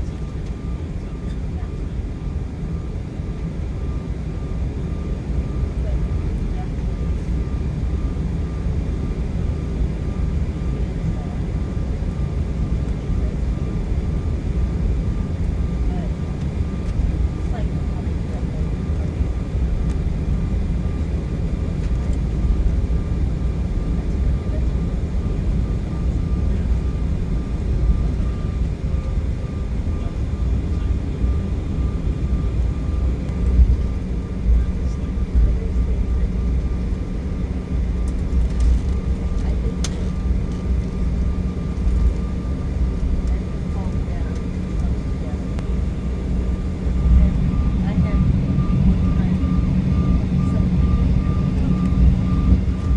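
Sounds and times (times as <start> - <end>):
jet engine rumble in cabin: 0.0 - 52.9.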